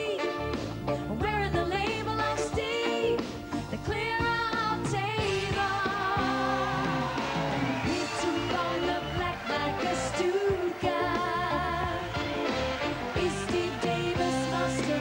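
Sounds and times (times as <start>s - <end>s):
women singing pop song: 0.0s - 7.2s, 7.9s - 12.4s, 13.0s - 15.0s
live band playing: 0.0s - 15.0s.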